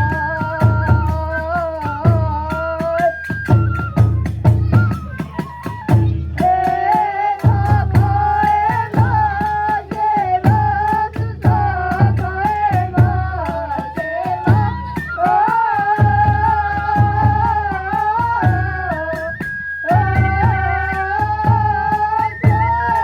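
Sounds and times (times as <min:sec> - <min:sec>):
taiko drum beats: 0:00.0 - 0:20.6
bamboo flute melody: 0:00.0 - 0:23.0.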